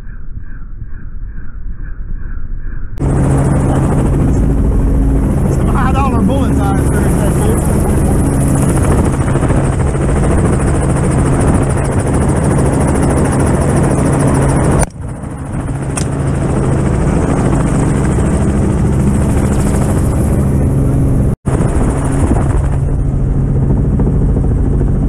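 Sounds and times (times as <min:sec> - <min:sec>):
helicopter engine and rotor: 0:03.0 - 0:25.0.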